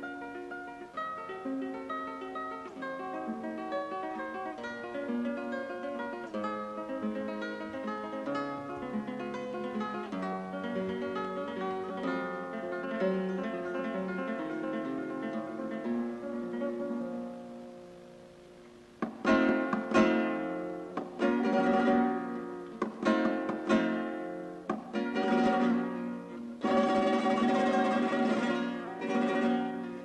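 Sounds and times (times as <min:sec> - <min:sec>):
acoustic guitar strummed chords: 0:00.0 - 0:30.0.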